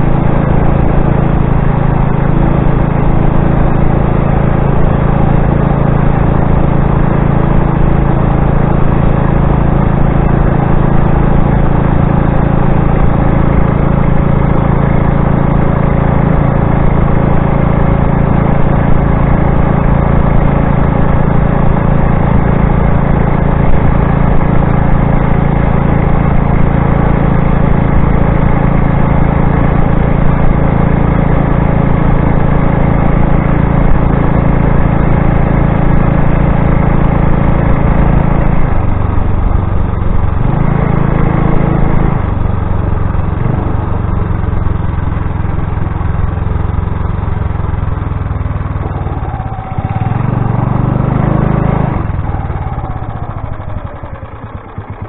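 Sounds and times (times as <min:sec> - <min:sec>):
motorized bicycle engine drone: 0:00.0 - 0:55.0.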